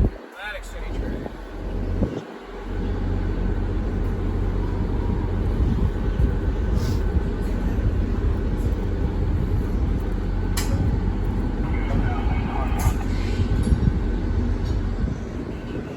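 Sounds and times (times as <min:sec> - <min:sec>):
diesel locomotive idling: 0:00.0 - 0:15.9.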